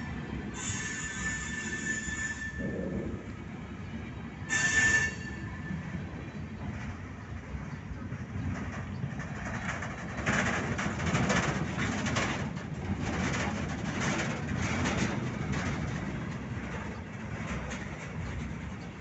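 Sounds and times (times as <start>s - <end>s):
rail car clatter: 0.0s - 19.0s
steel wheels rumbling on rail: 0.0s - 19.0s.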